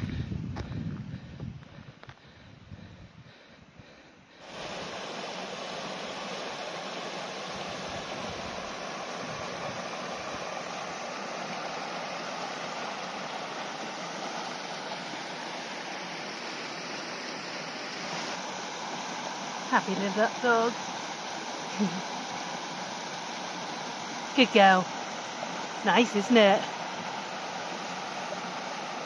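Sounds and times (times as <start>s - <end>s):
stream babbling over stones: 4.4s - 29.0s.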